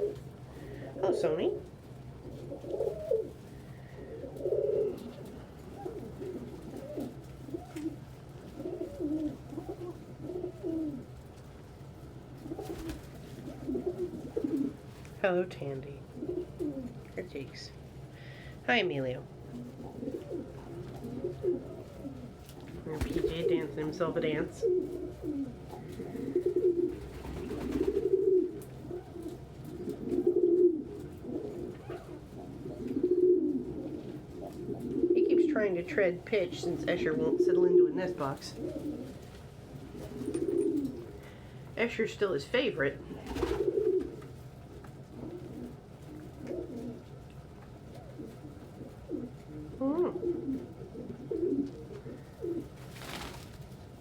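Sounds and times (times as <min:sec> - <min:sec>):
pigeons cooing: 0:00.0 - 0:14.9, 0:16.0 - 0:17.1, 0:19.3 - 0:41.7, 0:43.0 - 0:54.0.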